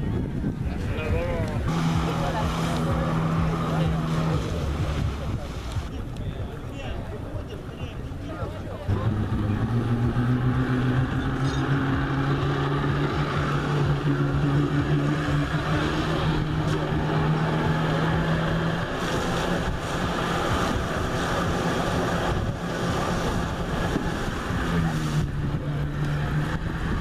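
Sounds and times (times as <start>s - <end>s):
jet ski engine revving: 0.9s - 6.2s, 8.5s - 27.0s.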